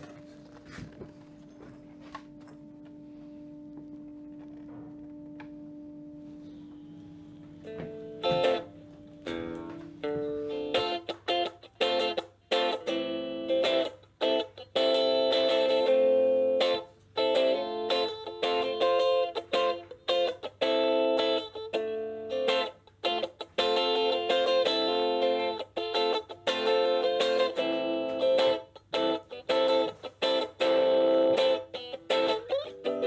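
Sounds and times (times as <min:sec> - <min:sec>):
electric guitar chords and riffs: 0:00.0 - 0:33.0.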